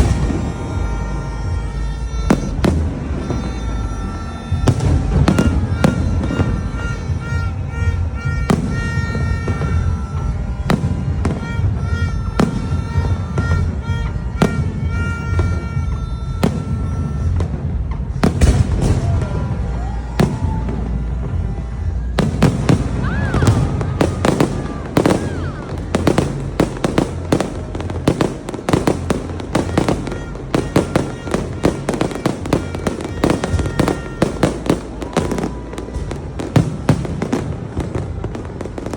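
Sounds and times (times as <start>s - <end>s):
firework whistles rising: 0.0s - 38.9s
fireworks bangs and crackles: 0.0s - 38.9s
music with held notes: 0.0s - 38.9s.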